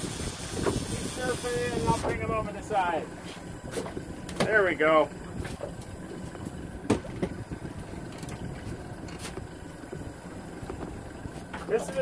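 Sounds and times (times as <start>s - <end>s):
outboard motor running: 0.0s - 12.0s
wind and water: 0.0s - 12.0s.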